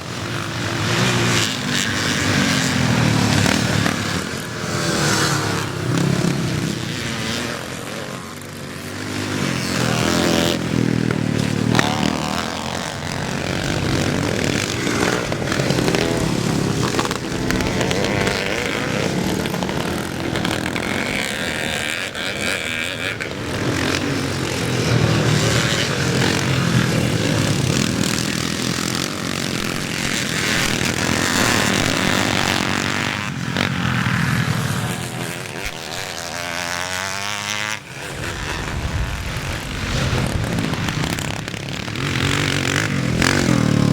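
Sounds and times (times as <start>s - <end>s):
motocross bikes revving: 0.0s - 43.9s.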